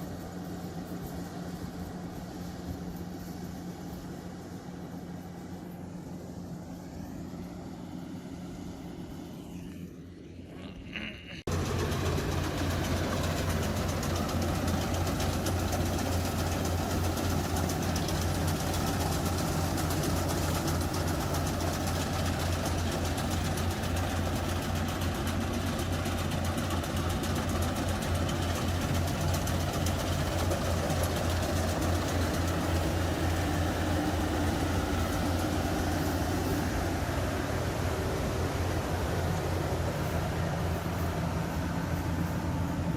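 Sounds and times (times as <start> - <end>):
harvester engine humming: 0.0 - 42.9
dense mechanical rush: 7.4 - 42.9.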